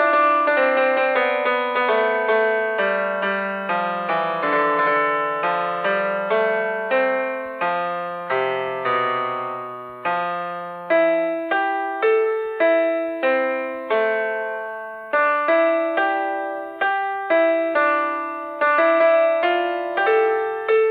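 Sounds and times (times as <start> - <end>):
slow electric keyboard melody: 0.0 - 20.9.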